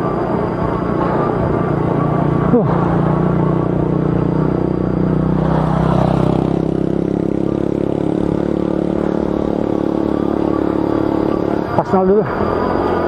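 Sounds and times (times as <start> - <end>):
electric bike motor humming: 0.0 - 13.0
motorcycle engine passing: 0.0 - 13.0
tyres on asphalt: 0.0 - 13.0.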